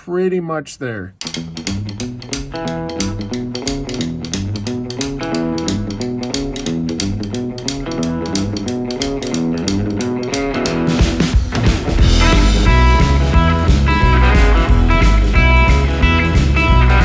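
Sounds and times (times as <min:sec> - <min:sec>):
guitar and bass music: 0:01.2 - 0:17.0.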